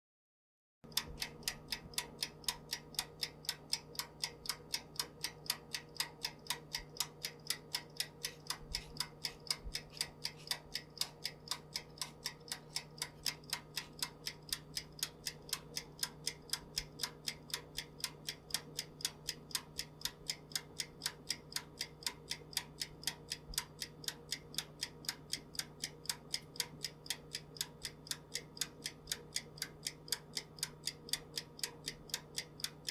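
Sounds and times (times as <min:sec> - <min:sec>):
faint steady hum: 0:00.9 - 0:32.9
oven ticking: 0:00.9 - 0:32.9.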